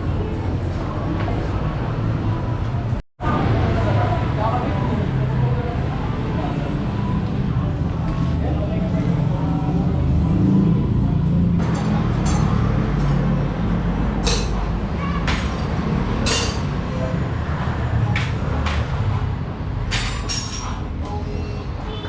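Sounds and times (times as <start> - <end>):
traffic rumble of vehicle engines: 0.0 - 22.0.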